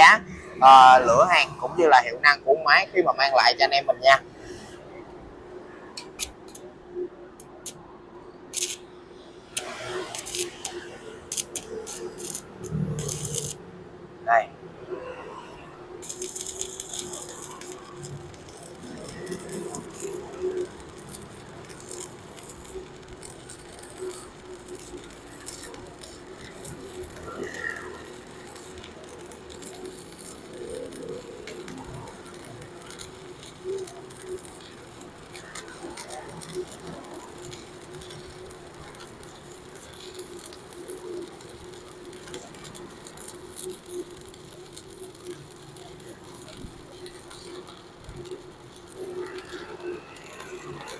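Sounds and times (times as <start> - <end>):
welding arc crackling: 0.0 - 4.4, 6.0 - 7.9, 8.5 - 13.8, 15.9 - 50.9.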